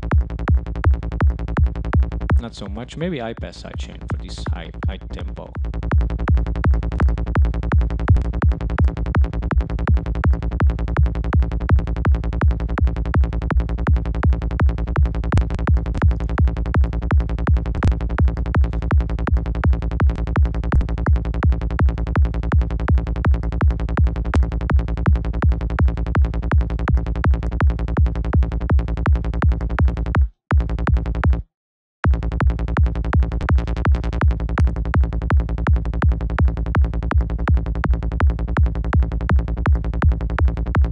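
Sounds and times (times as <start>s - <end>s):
rolling synth bass: 0.0s - 31.4s, 32.1s - 40.9s
punchy electronic kick drum: 0.0s - 40.9s.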